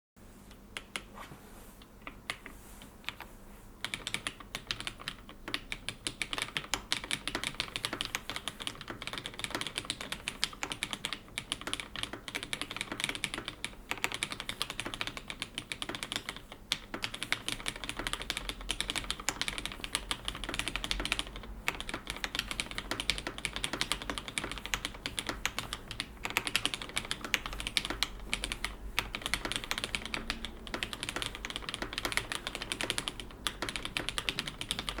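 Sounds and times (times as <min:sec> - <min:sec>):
mechanical keyboard typing: 0:02.0 - 0:35.0.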